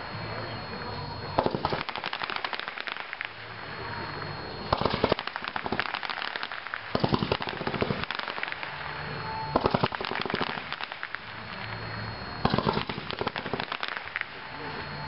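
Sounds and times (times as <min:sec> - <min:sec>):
sharp fireworks reports: 0:00.0 - 0:15.0
fireworks crackling and popping: 0:01.4 - 0:14.8.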